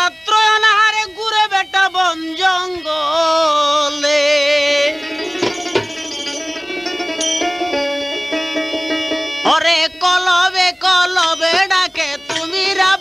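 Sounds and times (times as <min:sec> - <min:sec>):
folk song melody: 0:00.0 - 0:13.0.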